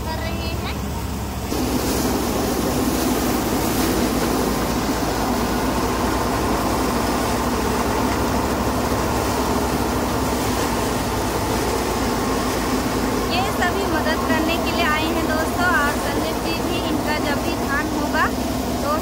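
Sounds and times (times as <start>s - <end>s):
thresher machine drone: 0.0s - 19.0s.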